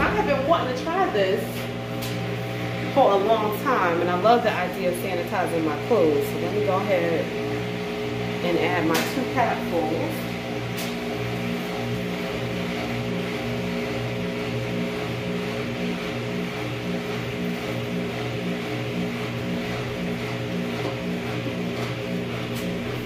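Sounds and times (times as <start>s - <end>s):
laundry machine hum: 0.0s - 23.0s.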